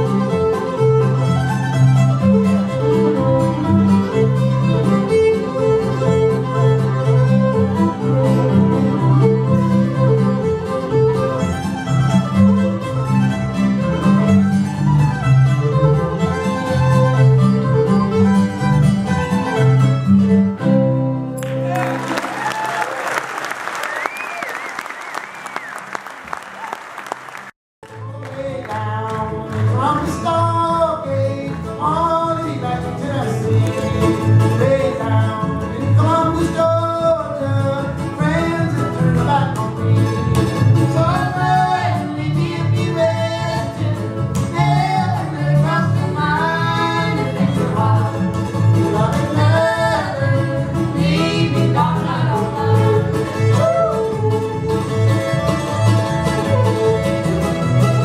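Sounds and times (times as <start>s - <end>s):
plucked upright bass: 0.0s - 21.8s, 27.9s - 58.0s
mandolin: 0.0s - 22.4s, 27.8s - 58.0s
fiddle: 0.0s - 22.6s, 27.9s - 58.0s
guitar: 0.0s - 22.8s, 27.8s - 58.0s.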